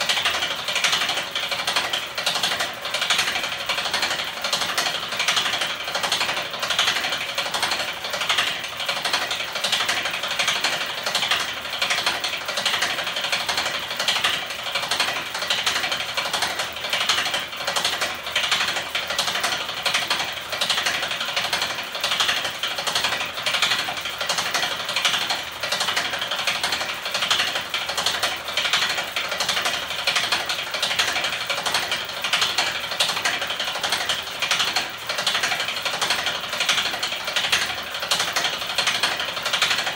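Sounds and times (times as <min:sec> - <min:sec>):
machine mechanical clatter: 0:00.0 - 0:39.9.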